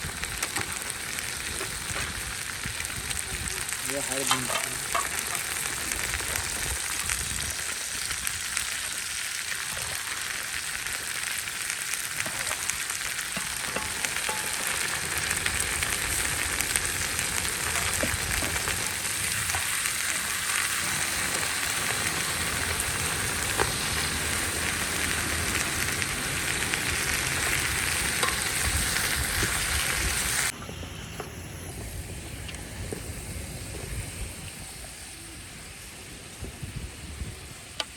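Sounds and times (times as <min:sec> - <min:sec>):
food sizzling in a pot: 0:00.0 - 0:37.9.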